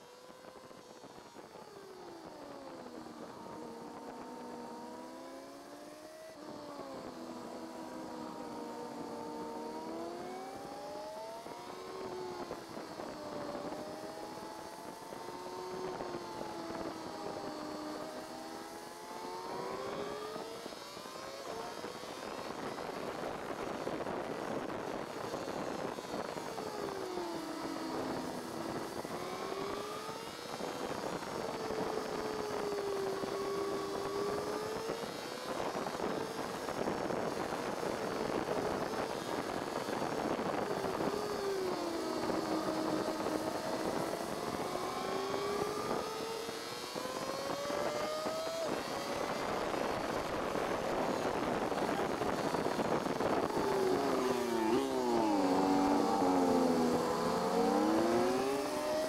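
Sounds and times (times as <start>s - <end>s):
motorcycle engine revving: 2.4s - 23.4s, 24.4s - 36.3s, 37.0s - 59.0s.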